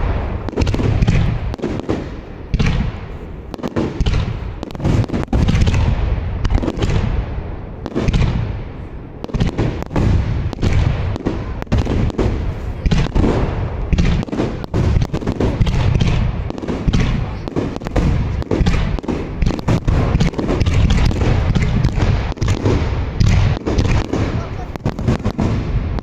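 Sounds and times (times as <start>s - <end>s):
firework shells booming and cracking: 0.0s - 26.0s.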